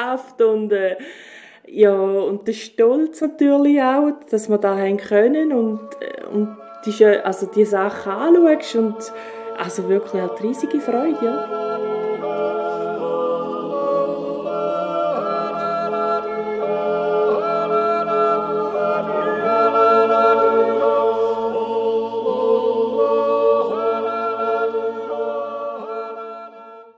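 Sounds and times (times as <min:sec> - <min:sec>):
wordless yodel choir: 0:04.4 - 0:26.9.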